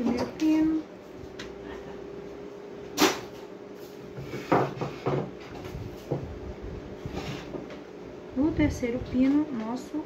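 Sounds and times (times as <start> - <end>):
air fryer humming: 0.0 - 10.0.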